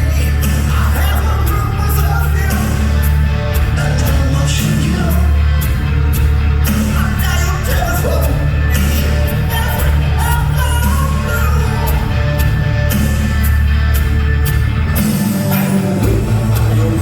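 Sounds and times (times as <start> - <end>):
person singing: 0.0 - 12.6, 15.0 - 17.0
rock band playing: 0.0 - 17.0.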